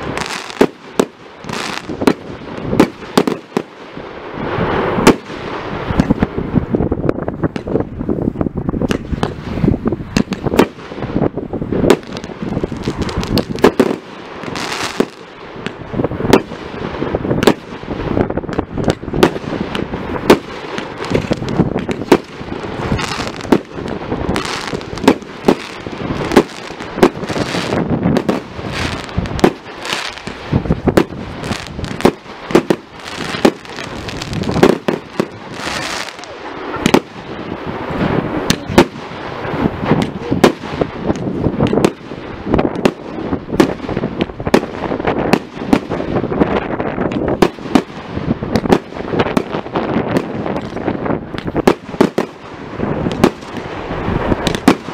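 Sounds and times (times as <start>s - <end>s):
firework hiss and crackle: 0.0s - 54.9s
firework shells bursting: 8.8s - 37.3s, 37.9s - 54.9s.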